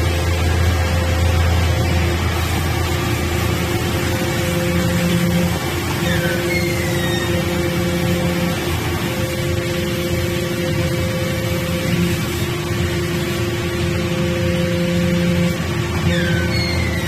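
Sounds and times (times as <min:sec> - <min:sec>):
briquetting press humming: 0:00.0 - 0:17.0.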